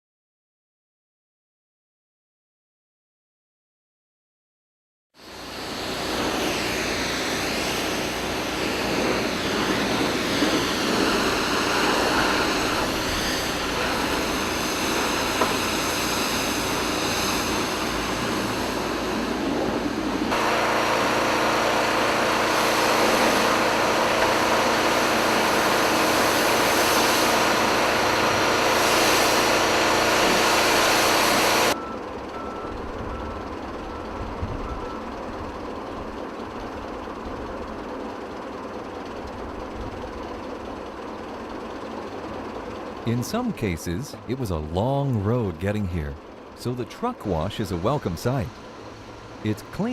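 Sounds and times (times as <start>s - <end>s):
heavy truck engines running: 5.2s - 49.9s.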